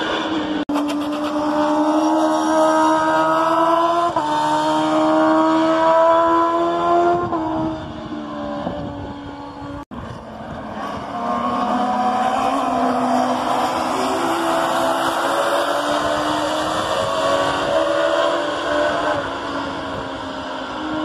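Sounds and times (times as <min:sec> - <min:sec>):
race car engine accelerating: 0:00.0 - 0:21.0
race car engines approaching: 0:00.0 - 0:21.0.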